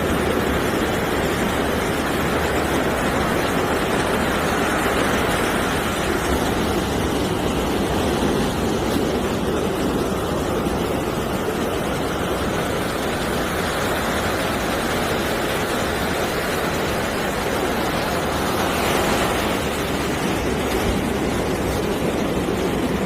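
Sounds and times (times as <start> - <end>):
ocean surf rushing: 0.0 - 23.0
wind buffeting microphone: 0.0 - 23.0.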